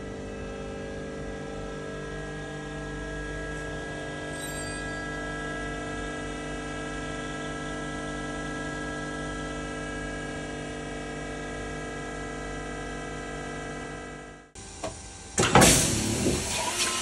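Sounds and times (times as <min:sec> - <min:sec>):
machine hum with constant tones: 0:00.0 - 0:16.4.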